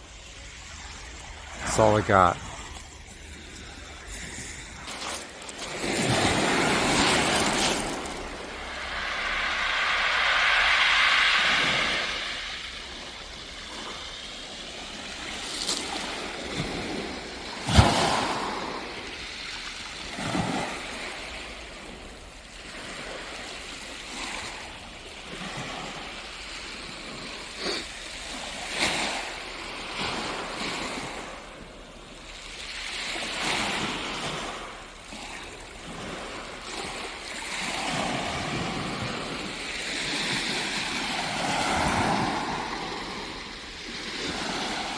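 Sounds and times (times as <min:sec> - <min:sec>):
surf washing onto beach: 0:00.0 - 0:44.9.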